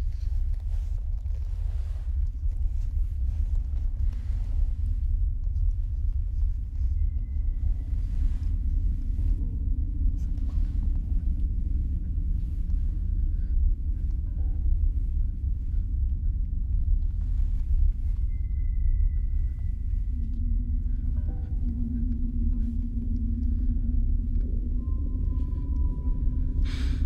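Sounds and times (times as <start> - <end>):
deep rumbling drone: 0.0 - 27.0.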